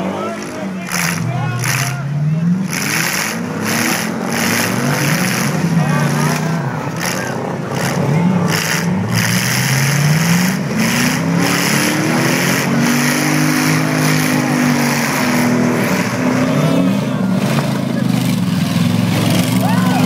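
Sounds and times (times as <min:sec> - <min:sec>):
car engines revving: 0:00.0 - 0:20.0
dense noisy din: 0:00.0 - 0:20.0.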